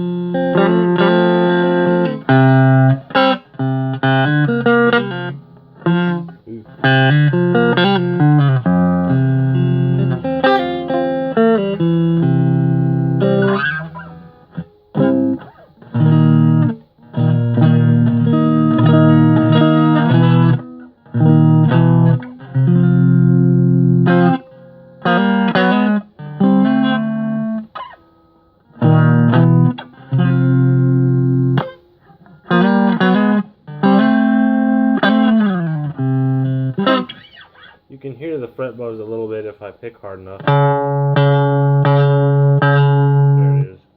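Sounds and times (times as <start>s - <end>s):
clean electric guitar strumming: 0.0s - 43.9s.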